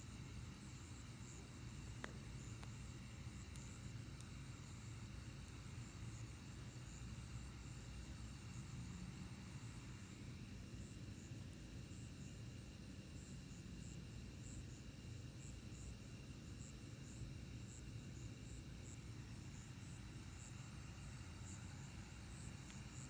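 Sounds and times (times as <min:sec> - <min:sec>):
night insects chirping: 0:00.0 - 0:23.0
steady low hum: 0:00.0 - 0:23.0.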